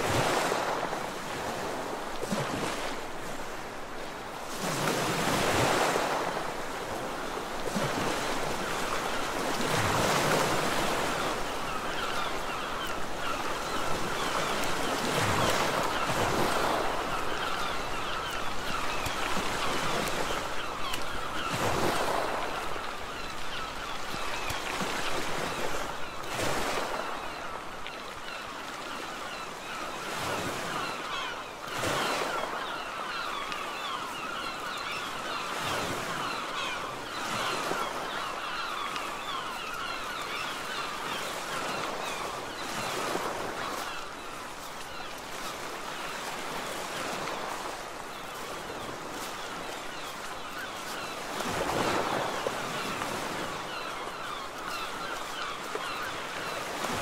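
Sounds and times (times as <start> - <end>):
surf washing ashore: 0.0 - 57.0
many birds calling: 4.6 - 57.0.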